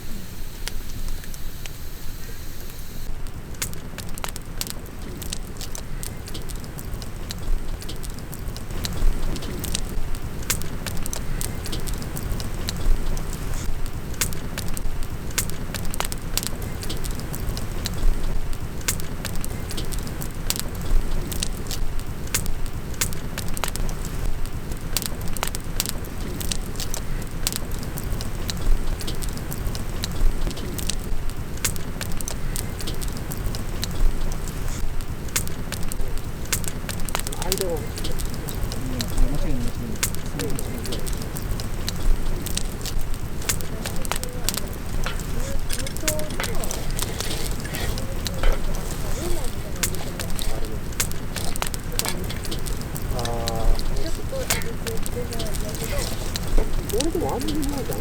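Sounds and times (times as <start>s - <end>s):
campfire crackling: 0.0s - 58.0s
fire popping: 0.0s - 58.0s.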